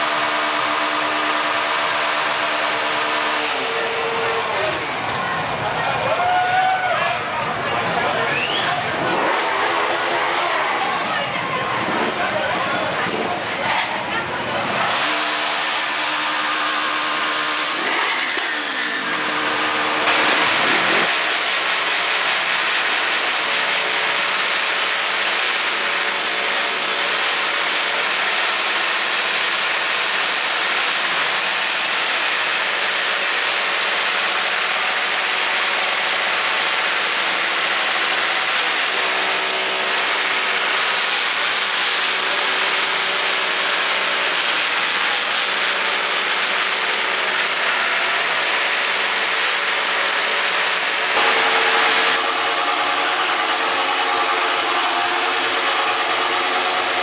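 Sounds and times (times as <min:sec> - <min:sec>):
motorcycle engines revving: 0:00.0 - 0:06.1, 0:07.1 - 0:57.0.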